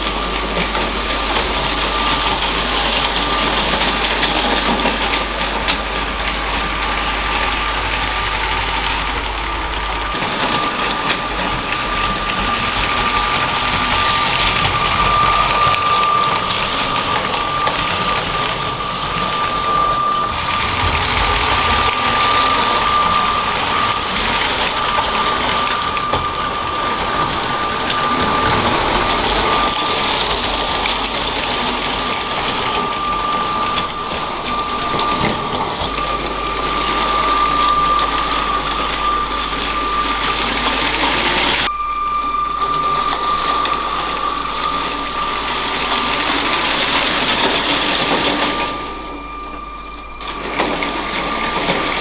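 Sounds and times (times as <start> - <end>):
toy train motor whine: 0.0 - 52.0
wheels rattling on rails: 0.0 - 52.0.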